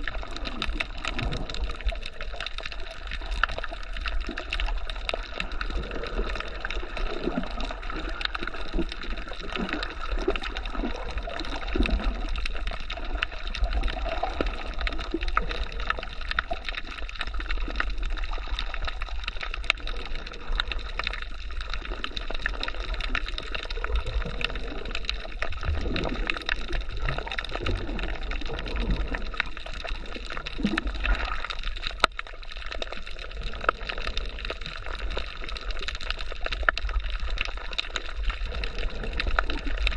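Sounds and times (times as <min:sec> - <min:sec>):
fine crackling clicks: 0:00.0 - 0:39.9
muffled underwater gurgling: 0:00.0 - 0:39.9.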